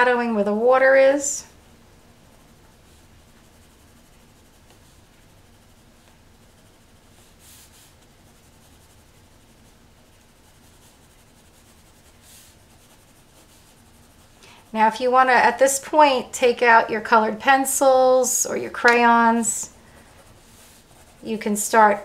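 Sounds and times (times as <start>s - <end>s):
pencil scratching on paper: 2.2s - 16.6s, 17.5s - 22.0s.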